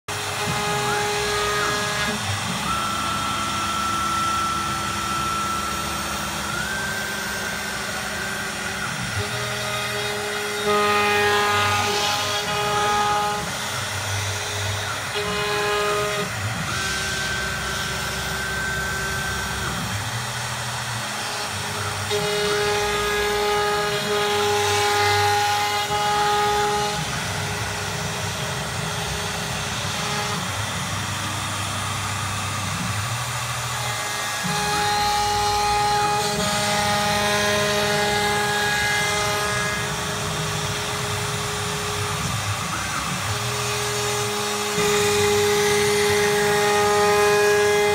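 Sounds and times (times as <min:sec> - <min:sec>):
cnc router spindle whine: 0:00.1 - 0:47.9
motor tones changing pitch: 0:00.1 - 0:47.9.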